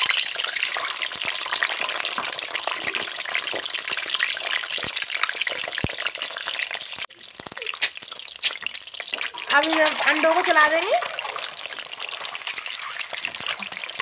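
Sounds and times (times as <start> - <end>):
hot oil sizzling and popping: 0.0 - 14.0.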